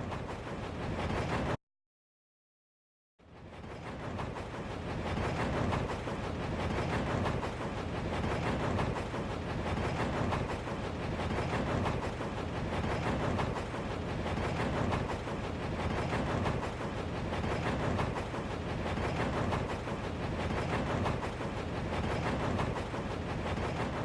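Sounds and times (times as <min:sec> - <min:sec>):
train rattling on track: 0:00.0 - 0:01.6, 0:03.2 - 0:24.0.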